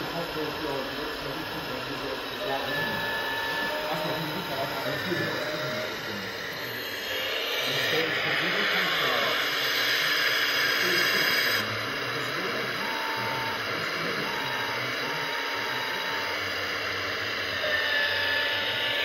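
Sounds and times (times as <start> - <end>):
hydraulic pump whirring hiss: 0.0 - 19.0
short whines: 0.4 - 19.0.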